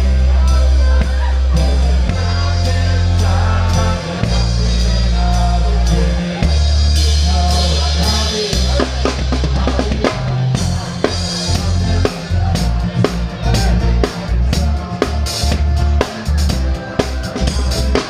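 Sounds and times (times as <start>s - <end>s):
drum kit: 0.0s - 18.0s
live rock band playing: 0.0s - 18.0s.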